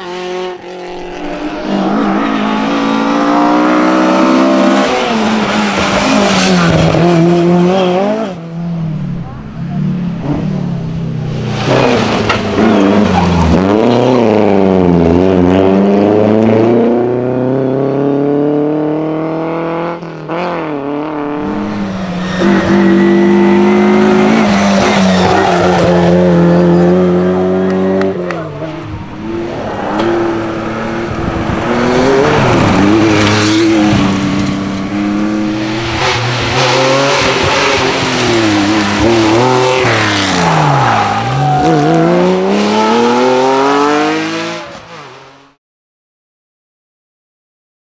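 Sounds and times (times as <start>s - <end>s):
rally car engines revving hard: 0.0s - 45.6s.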